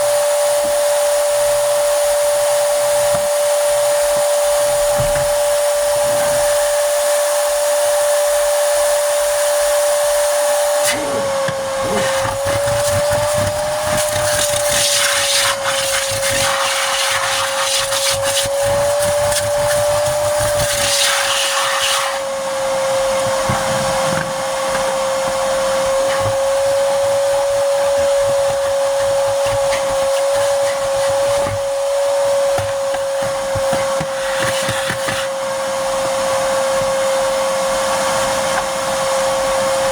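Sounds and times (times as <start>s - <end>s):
vacuum air hissing: 0.0s - 39.9s
vacuum cleaner running: 0.0s - 39.9s.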